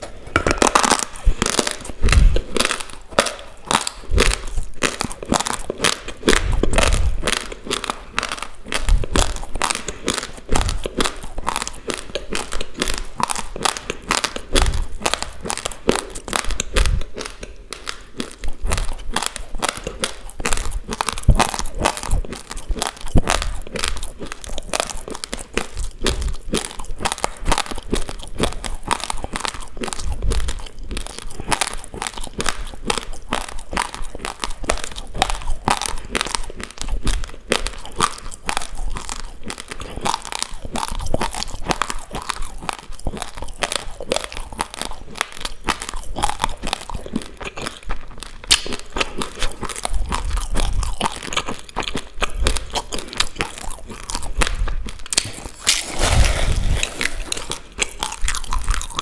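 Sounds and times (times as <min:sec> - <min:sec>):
crunching raw rice grains: 0:00.0 - 0:59.0.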